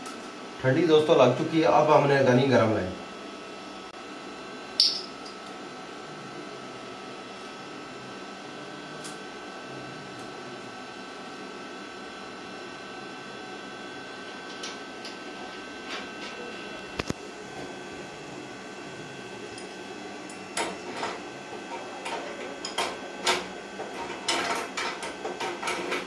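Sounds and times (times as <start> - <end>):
steady low hum: 0.0 - 25.8.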